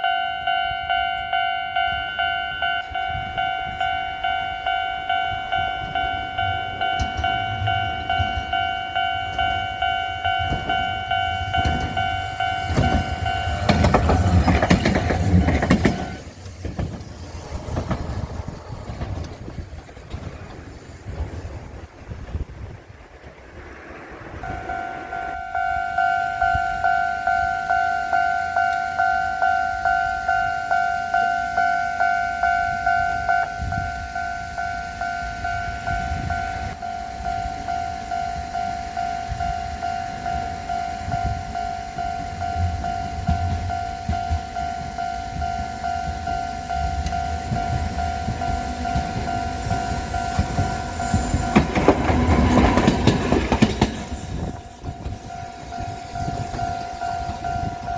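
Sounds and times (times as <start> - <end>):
level crossing warning bell: 0.0 - 16.3, 24.3 - 57.9
tram rumble: 0.0 - 57.9.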